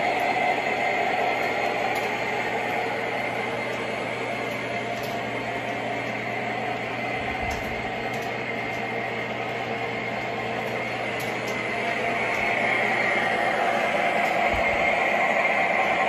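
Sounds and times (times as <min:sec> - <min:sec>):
model trains rumbling on track: 0:00.0 - 0:16.0.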